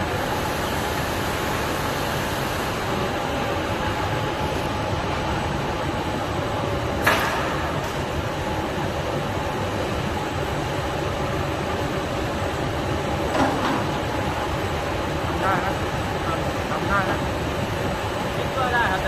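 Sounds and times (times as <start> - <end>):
roller conveyor humming: 0.0 - 19.0.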